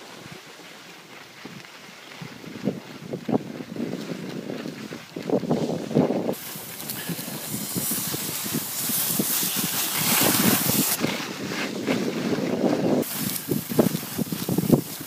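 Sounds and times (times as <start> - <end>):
skis hissing on packed snow: 0.0 - 15.0
wind buffeting microphone: 1.3 - 15.0.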